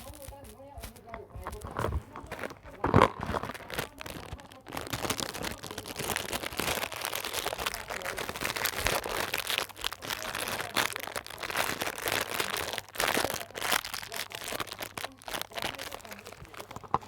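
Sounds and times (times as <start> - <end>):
wrapper crinkling: 0.0 - 17.0.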